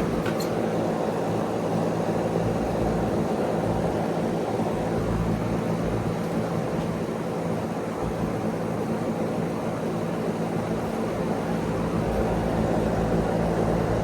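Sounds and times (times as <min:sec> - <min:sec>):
fan air rushing: 0:00.0 - 0:14.0.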